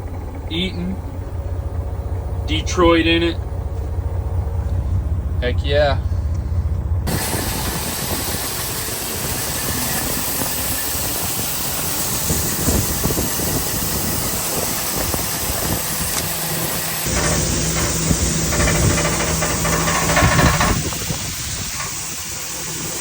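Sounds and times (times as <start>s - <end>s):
diesel engine running: 0.0s - 23.0s
steady rushing noise: 4.4s - 23.0s.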